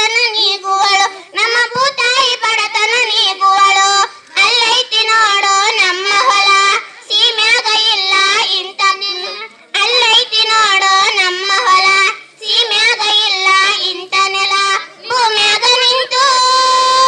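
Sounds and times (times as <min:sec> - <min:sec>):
child singing folk song: 0:00.0 - 0:17.0.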